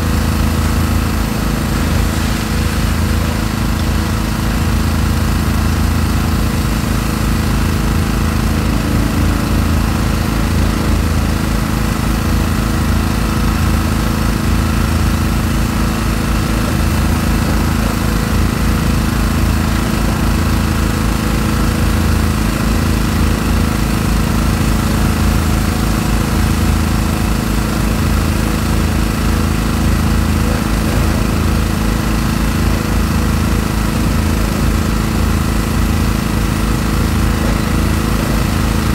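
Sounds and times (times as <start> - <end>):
excavator diesel engine under load: 0.0 - 38.9.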